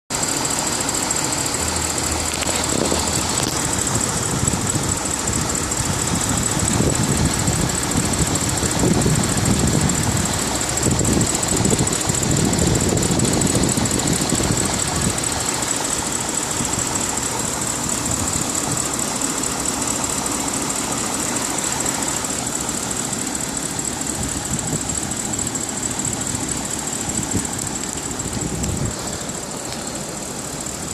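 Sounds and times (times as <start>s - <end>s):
car engine idling: 0.1s - 30.9s.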